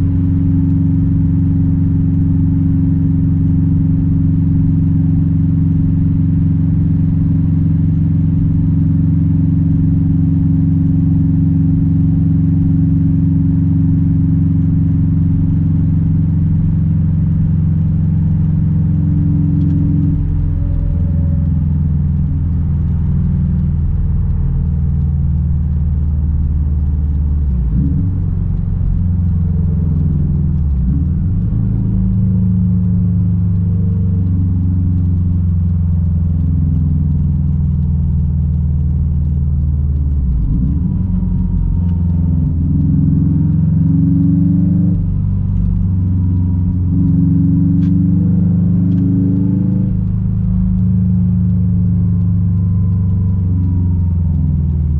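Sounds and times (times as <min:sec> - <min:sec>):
car engine running: 0:00.0 - 0:54.9.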